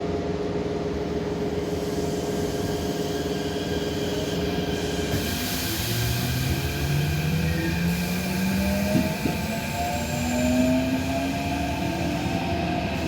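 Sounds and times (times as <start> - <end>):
train wheels rumbling: 1.1 - 13.0.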